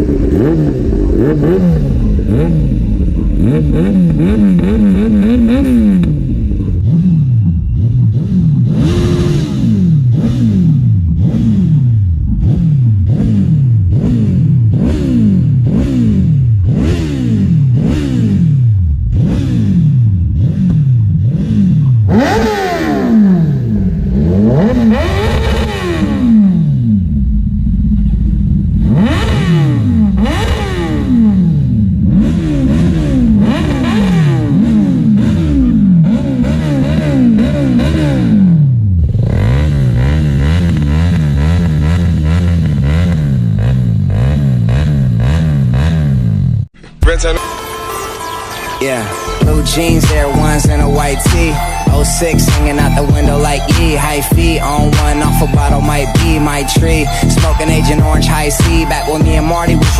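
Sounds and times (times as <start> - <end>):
motorcycle engine revving: 0.0 - 47.0, 49.4 - 59.9.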